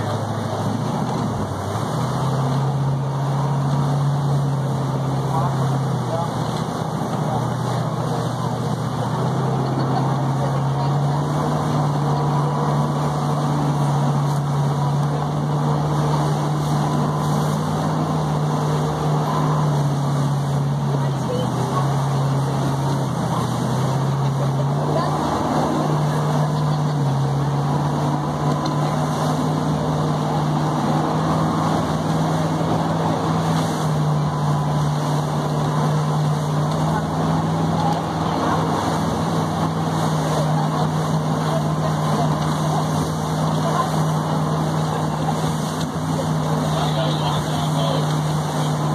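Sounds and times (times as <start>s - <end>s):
boat engine running: 0.0s - 48.9s
churning wake and spray: 0.0s - 48.9s.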